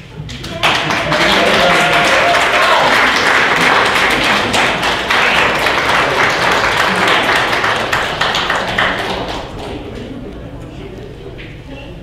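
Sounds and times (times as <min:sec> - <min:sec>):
crowd applauding: 0:00.2 - 0:10.2.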